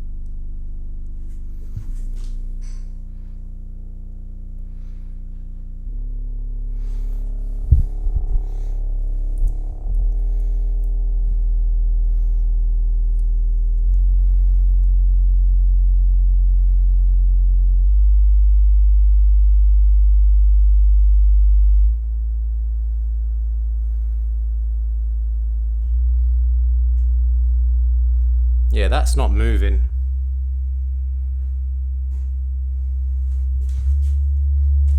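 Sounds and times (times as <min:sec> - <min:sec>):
deep bass sine tones: 0:00.0 - 0:34.9.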